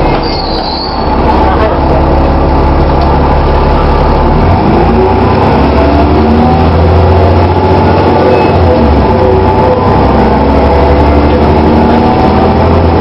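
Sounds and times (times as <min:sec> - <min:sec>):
bus engine running under load: 0:00.0 - 0:13.0.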